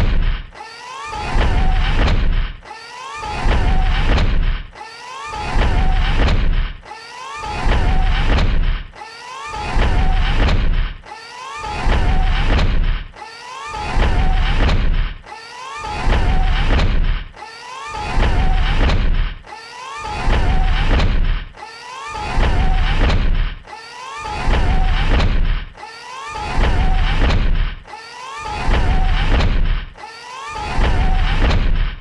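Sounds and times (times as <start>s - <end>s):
mechanical servo whine: 0.0s - 6.8s, 7.4s - 10.9s, 11.5s - 15.1s, 15.7s - 32.0s
heavy mechanical stomps: 0.0s - 9.0s, 9.6s - 17.4s, 18.0s - 32.0s.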